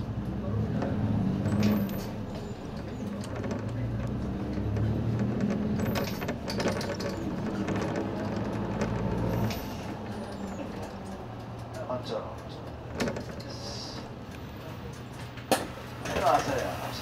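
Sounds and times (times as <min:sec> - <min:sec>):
tyre noise on wet road: 0:00.0 - 0:14.8
bus engine droning: 0:00.0 - 0:17.0
clicks and rattles: 0:00.8 - 0:16.5.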